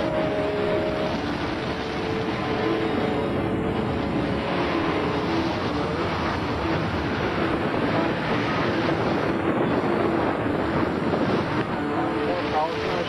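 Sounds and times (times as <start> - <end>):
strong wind roaring: 0.0 - 13.0.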